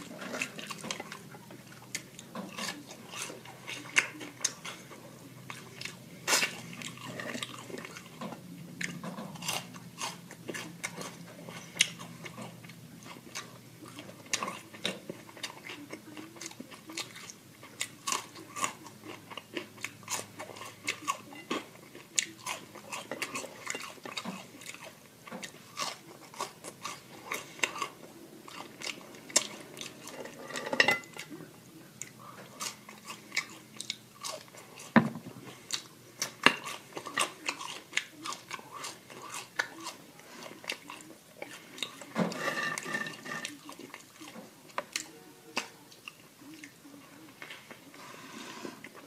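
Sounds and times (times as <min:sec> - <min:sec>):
chewing and crunching food: 0:00.0 - 0:49.0.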